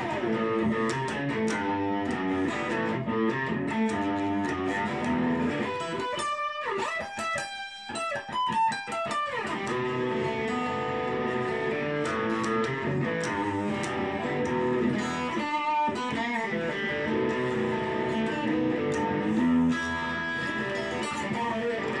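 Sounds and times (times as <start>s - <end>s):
electric guitar boogie riffs: 0.0s - 22.0s.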